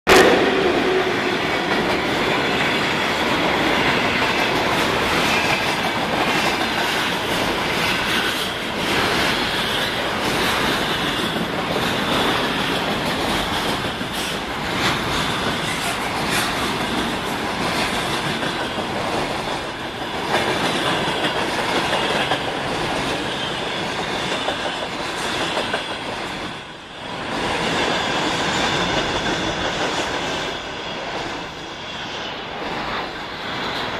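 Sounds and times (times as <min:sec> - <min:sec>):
train wheels clattering over rails: 0:00.1 - 0:31.6
freight train rolling past: 0:00.1 - 0:33.9.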